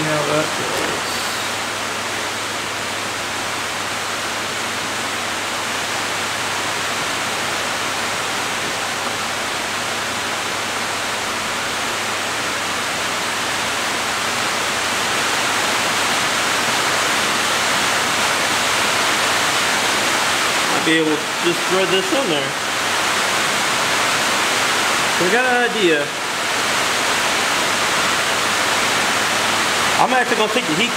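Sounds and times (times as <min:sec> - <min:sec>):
electric fans rushing: 0:00.0 - 0:30.9.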